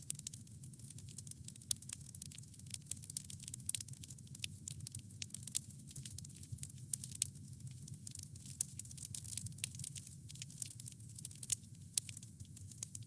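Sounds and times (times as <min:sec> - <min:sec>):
campfire crackling: 0:00.2 - 0:12.9.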